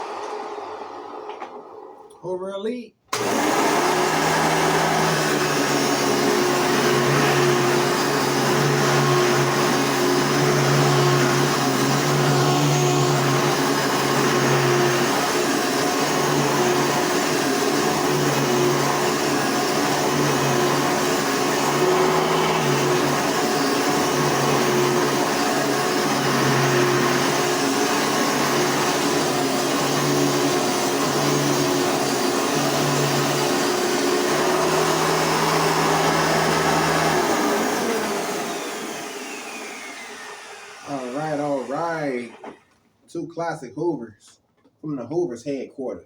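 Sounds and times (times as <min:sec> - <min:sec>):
vacuum cleaner running: 0:00.0 - 0:02.1, 0:03.1 - 0:42.7.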